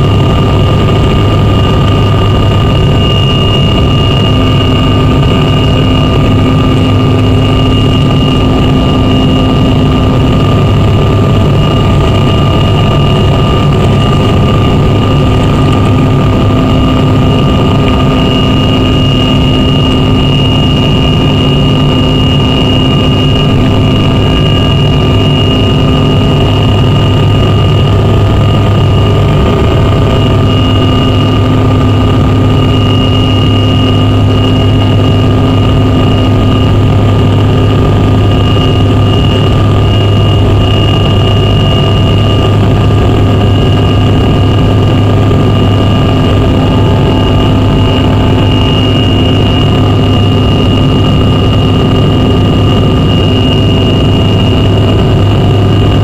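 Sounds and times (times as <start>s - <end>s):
jet engine drone in cabin: 0.0s - 56.0s
steady high whine: 0.0s - 56.0s.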